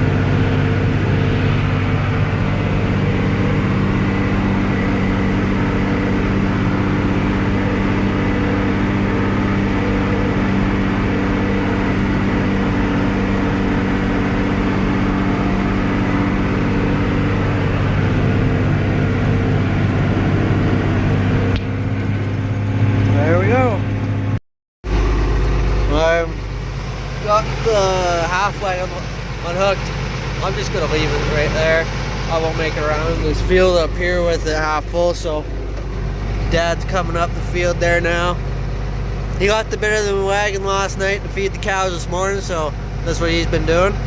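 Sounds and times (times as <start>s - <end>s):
tractor engine droning: 0.0s - 44.0s.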